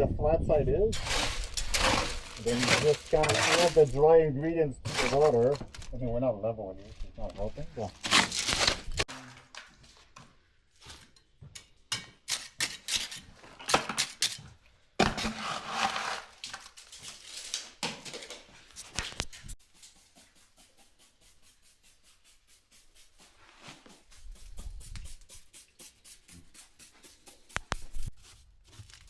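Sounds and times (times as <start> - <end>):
hand tool scraping mortar: 1.0 - 4.0, 4.8 - 6.0, 6.8 - 9.8, 10.8 - 29.0.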